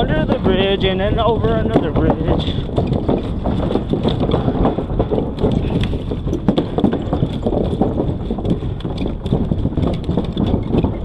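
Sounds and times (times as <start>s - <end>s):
bicycle rattling over bumps: 0.0s - 11.0s
wind rumble on microphone: 0.0s - 11.0s.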